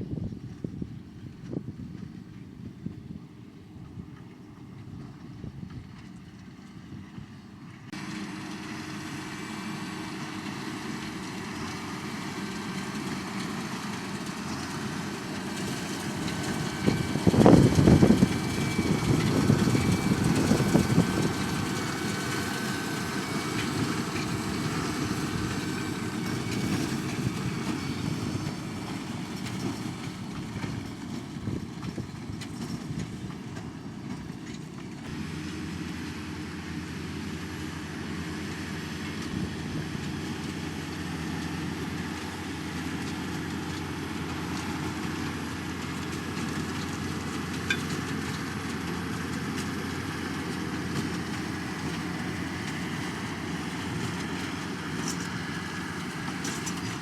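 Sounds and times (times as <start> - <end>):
tractor and baler running: 0.0 - 57.0.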